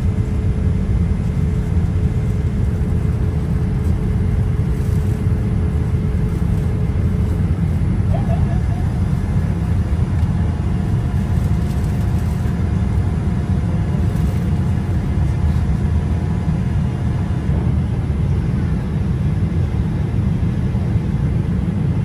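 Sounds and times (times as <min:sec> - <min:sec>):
faint steady whine: 0:00.0 - 0:22.0
jet engine cabin rumble: 0:00.0 - 0:22.0.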